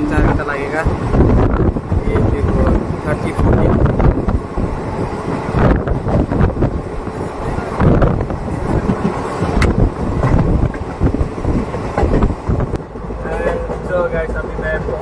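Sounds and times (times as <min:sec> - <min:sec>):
wind buffeting microphone: 0:00.0 - 0:13.2
train rumble: 0:00.0 - 0:15.0.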